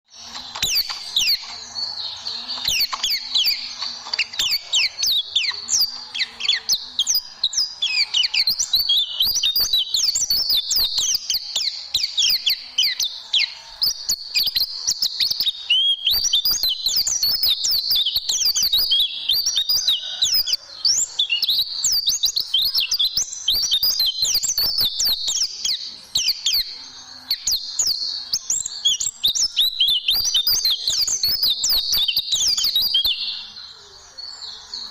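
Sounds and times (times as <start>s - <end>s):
bird singing fast chirps: 0.0s - 34.9s.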